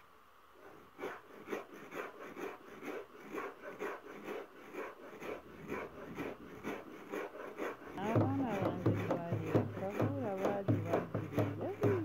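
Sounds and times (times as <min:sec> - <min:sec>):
hand stone grinding grain: 0:00.6 - 0:12.0.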